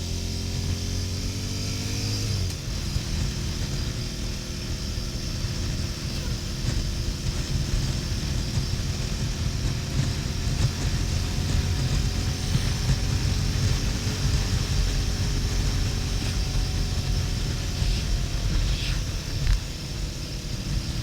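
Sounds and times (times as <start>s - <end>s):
motorcycle engine running: 0.0s - 21.0s
wind noise on microphone: 1.0s - 21.0s.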